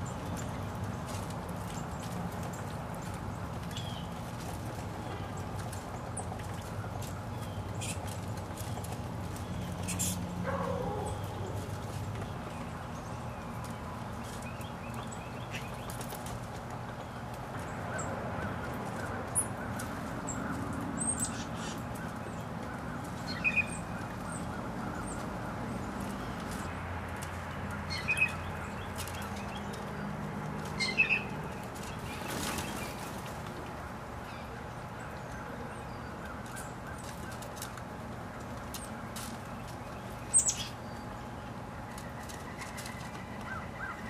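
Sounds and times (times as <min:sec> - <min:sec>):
rustling of dry leaves: 0:00.0 - 0:44.0.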